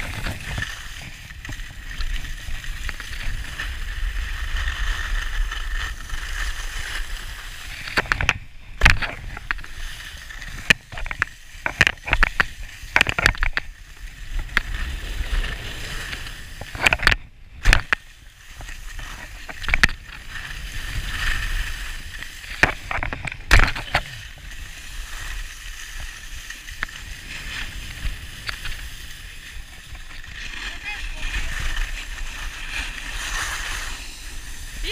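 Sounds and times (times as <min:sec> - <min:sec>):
skis scraping over snow: 0:00.0 - 0:17.0, 0:17.8 - 0:34.9.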